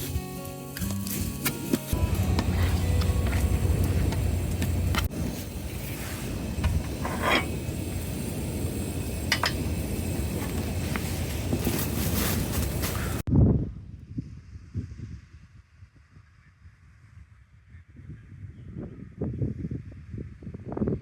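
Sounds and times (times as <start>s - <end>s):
strong wind buffeting microphone: 2.0s - 21.0s.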